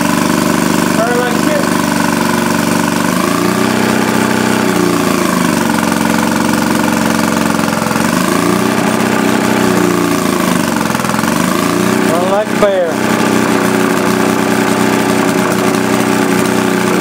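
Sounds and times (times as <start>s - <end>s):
two-stroke engine running: 0.0s - 17.0s.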